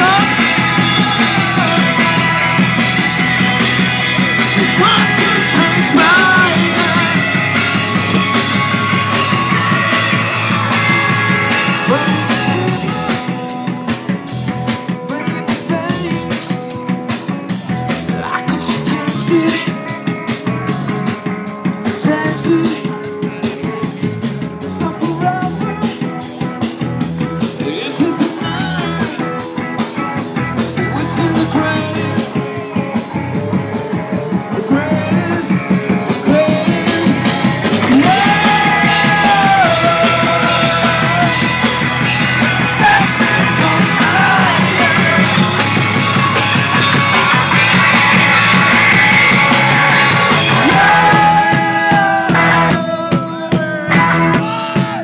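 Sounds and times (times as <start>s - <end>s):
person singing: 0.0s - 14.0s, 14.8s - 16.9s, 17.7s - 26.6s, 27.4s - 46.2s, 49.2s - 55.0s
drum kit beat: 0.0s - 55.0s
rock band playing: 0.0s - 55.0s.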